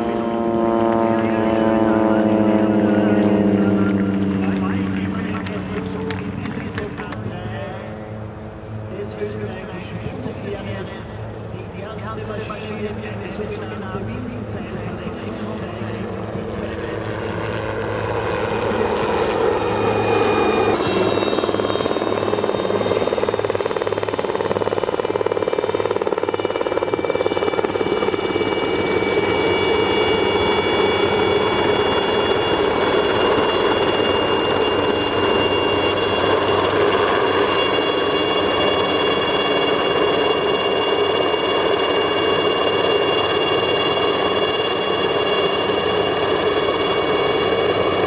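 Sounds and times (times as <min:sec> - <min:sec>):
helicopter rotor noise: 0:00.0 - 0:48.0
helicopter turbine whine: 0:00.0 - 0:48.0.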